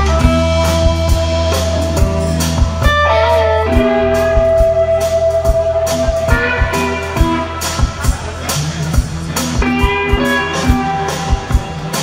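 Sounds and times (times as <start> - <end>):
bass: 0.0 - 12.0
drum kit: 0.0 - 12.0.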